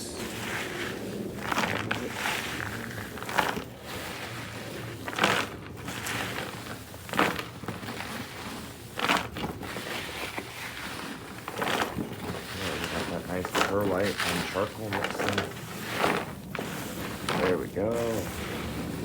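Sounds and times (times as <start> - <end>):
gritty potting mix crunching: 0.0 - 19.0.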